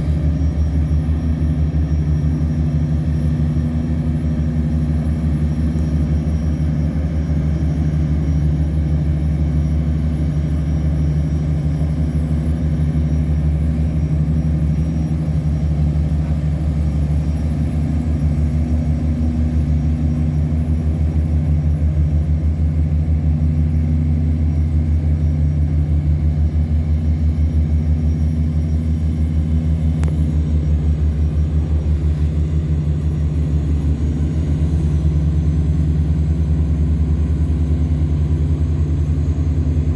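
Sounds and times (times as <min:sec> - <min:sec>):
tugboat diesel engine throbbing: 0:00.0 - 0:39.9.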